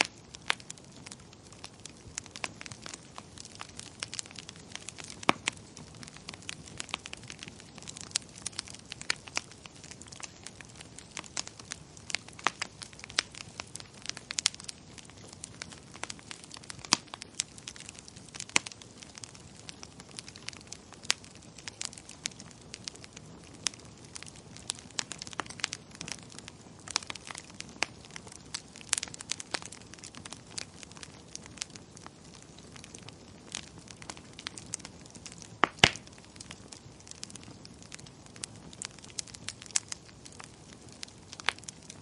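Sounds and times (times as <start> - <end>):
fire crackling and popping: 0.0 - 42.0.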